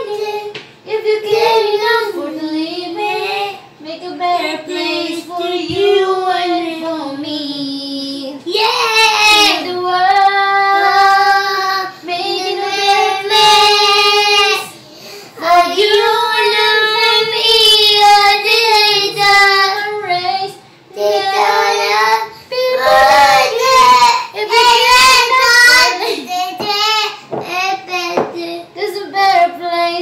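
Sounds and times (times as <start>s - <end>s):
boy and woman singing: 0.0s - 30.0s.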